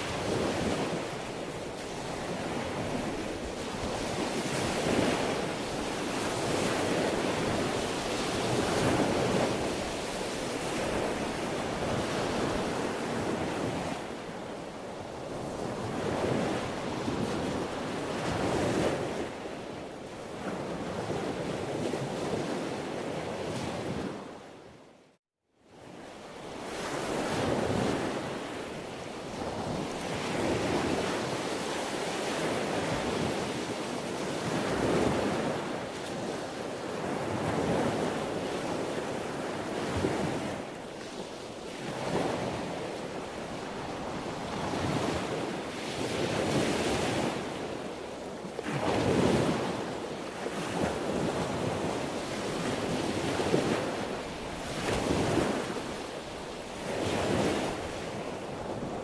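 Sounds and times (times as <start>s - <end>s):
sea waves washing onto shore: 0.0s - 24.2s, 26.2s - 59.0s.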